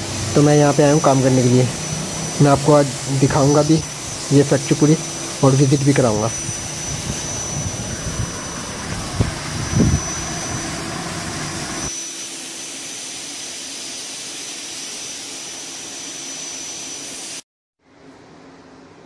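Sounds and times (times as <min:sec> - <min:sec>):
fogging machine hiss and whine: 0:00.0 - 0:17.4.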